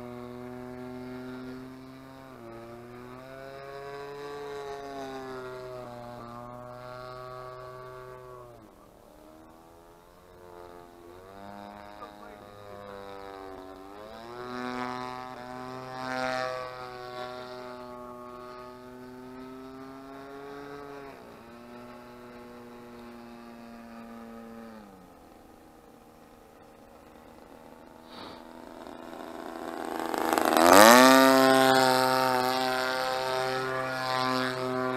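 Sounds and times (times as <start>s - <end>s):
model airplane engine: 0.0s - 34.9s.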